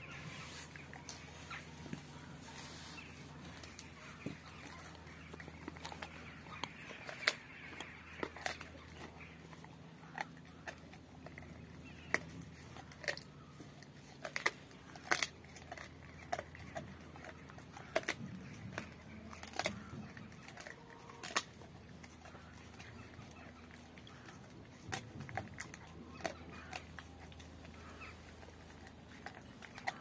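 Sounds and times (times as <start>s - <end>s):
dog crunching a bone: 0.0s - 30.0s.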